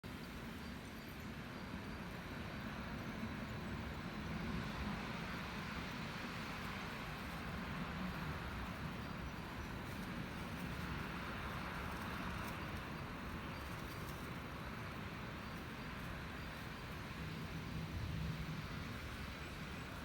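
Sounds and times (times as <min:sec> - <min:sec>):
city traffic rumble: 0:00.1 - 0:20.0.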